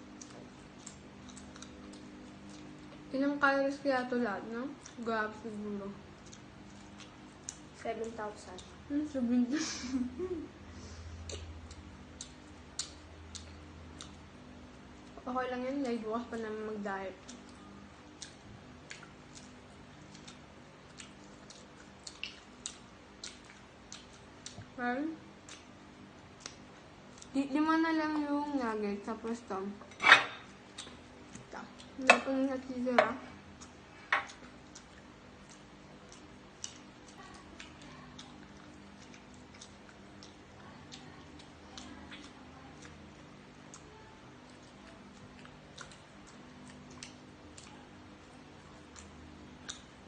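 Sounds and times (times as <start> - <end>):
chewing food: 0.0 - 9.2, 11.2 - 50.0
faint room hum: 0.0 - 50.0.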